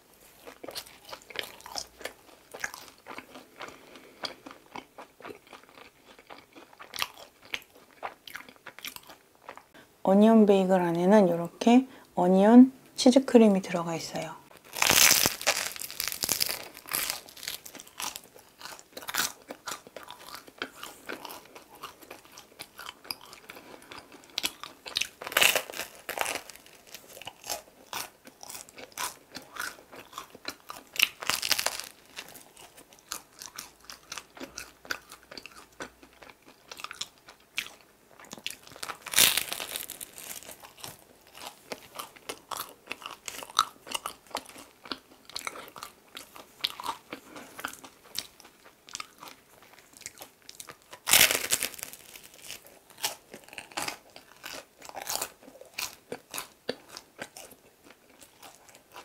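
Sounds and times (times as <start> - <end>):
crunchy bites and chewing: 0.3 - 9.7, 14.5 - 59.0.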